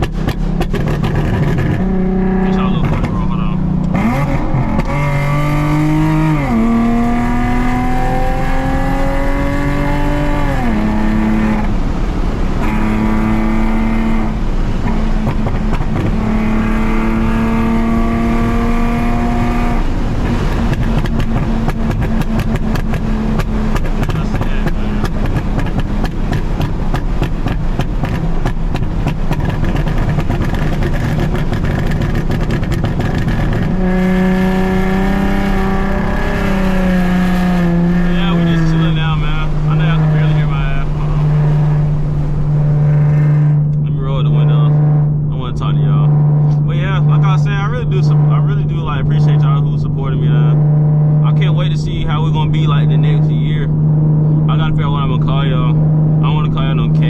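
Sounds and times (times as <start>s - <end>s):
crackling exhaust pops: 0.0s - 6.7s, 13.7s - 16.5s, 19.0s - 57.0s
car engine revving hard: 0.0s - 57.0s.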